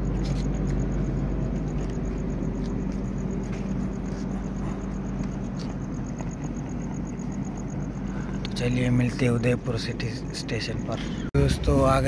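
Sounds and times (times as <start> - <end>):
low hum of standing train: 0.0 - 12.0.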